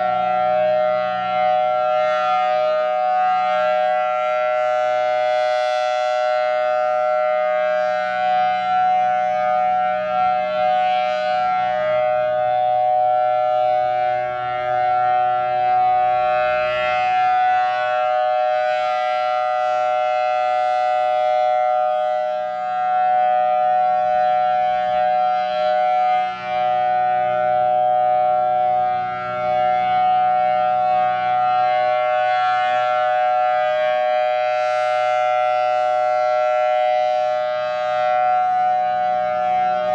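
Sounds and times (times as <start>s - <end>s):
dual-tone warning siren: 0.0s - 39.9s.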